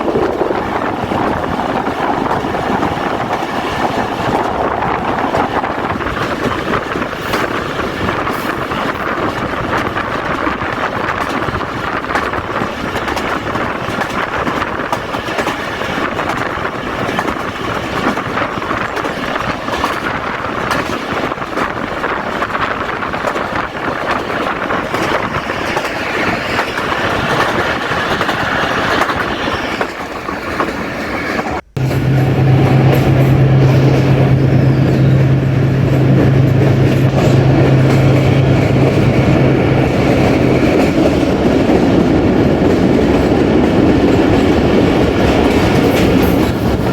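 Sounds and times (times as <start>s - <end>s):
train wheel and carriage noise: 0.0s - 46.9s.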